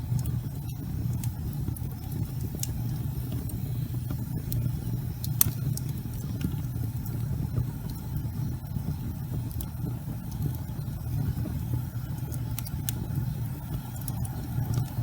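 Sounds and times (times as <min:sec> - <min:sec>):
fire crackles and pops: 0:00.0 - 0:15.0
fire rumbling in fireplace: 0:00.0 - 0:15.0.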